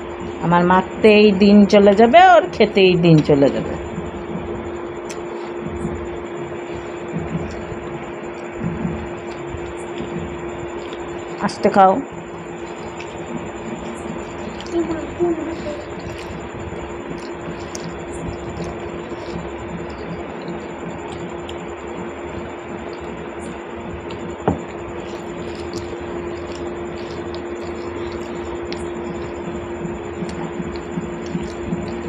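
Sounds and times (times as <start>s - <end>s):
rice squishing by hand: 0.0s - 32.0s
room hum and hiss: 0.0s - 32.0s
mouth clicks and smacks: 5.0s - 11.4s, 12.3s - 32.0s.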